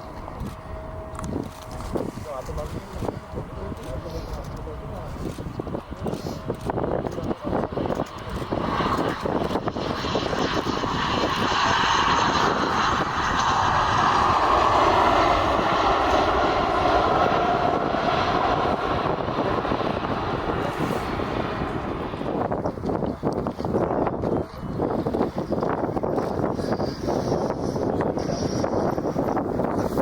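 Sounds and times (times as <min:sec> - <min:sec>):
airliner engines passing: 0:00.0 - 0:30.0.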